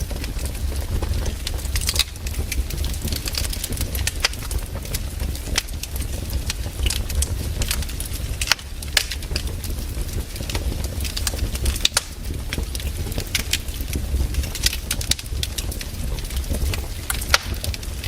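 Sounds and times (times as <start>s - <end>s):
burning logs snapping and popping: 0.0s - 18.0s
low rumble: 0.0s - 18.0s
wood fire crackling: 0.0s - 18.0s.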